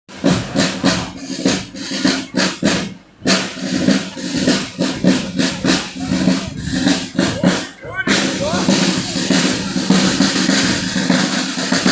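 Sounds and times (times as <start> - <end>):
marching band playing: 0.1 - 11.9
regular drum beats: 0.1 - 11.9.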